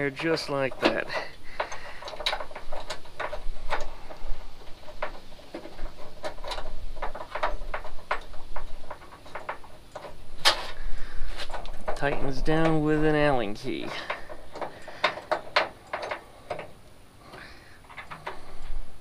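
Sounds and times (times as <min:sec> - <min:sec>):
screw clicking and scraping in metal: 0:00.0 - 0:18.7.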